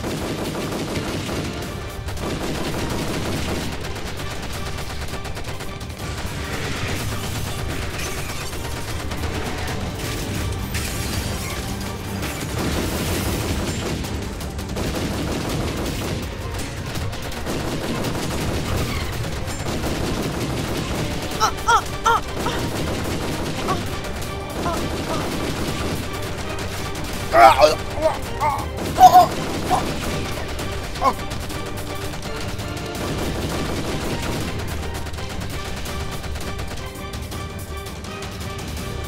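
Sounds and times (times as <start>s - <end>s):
rapid gunfire: 0.0s - 37.3s
background music: 0.0s - 39.0s.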